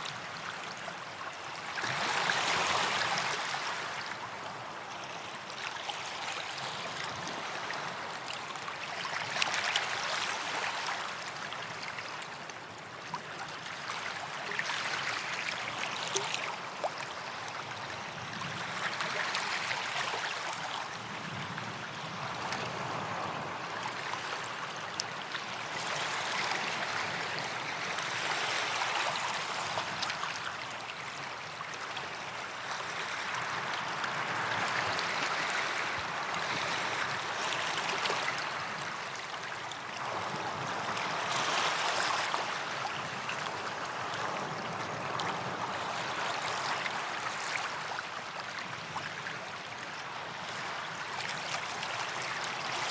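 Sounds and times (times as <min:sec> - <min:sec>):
waves washing onto beach: 0:00.0 - 0:52.9.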